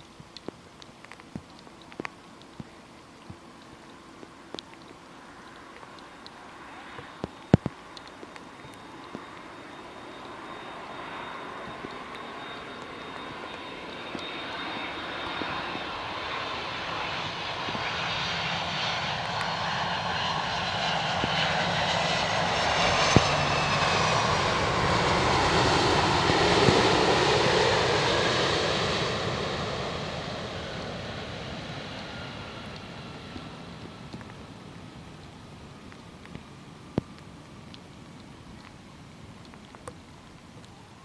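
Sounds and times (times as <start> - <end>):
jet airliner passing by: 5.1 - 39.2.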